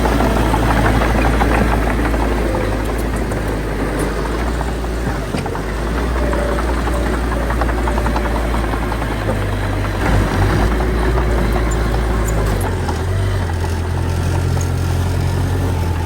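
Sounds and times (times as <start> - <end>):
bulldozer diesel engine running: 0.0 - 16.0
rapid metallic clatter: 0.0 - 16.0.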